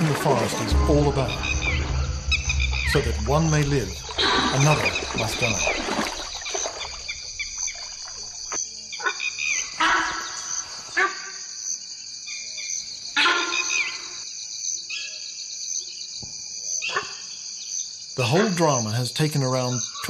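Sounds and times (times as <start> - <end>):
crickets chirping: 0.3 - 20.0.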